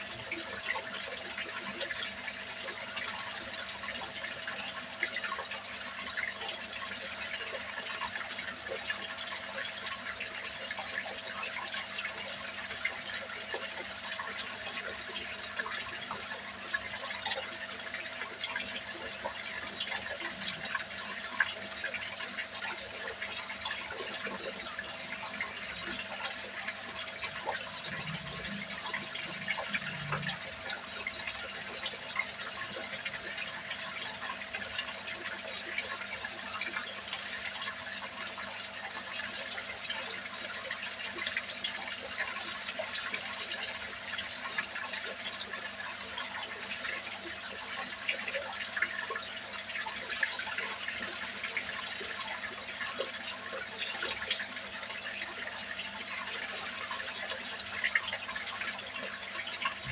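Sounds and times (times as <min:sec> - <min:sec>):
water pouring into a pond: 0:00.0 - 0:59.9.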